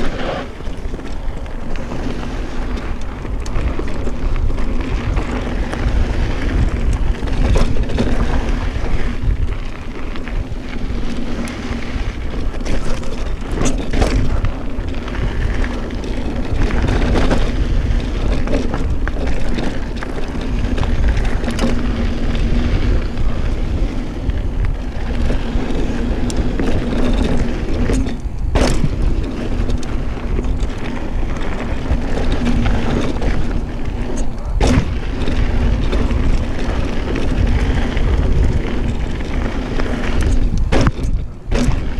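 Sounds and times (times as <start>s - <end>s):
bike knocks and rattles: 0.0s - 41.9s
bike tyres rumbling on dirt: 0.0s - 41.9s
wind noise: 0.0s - 41.9s.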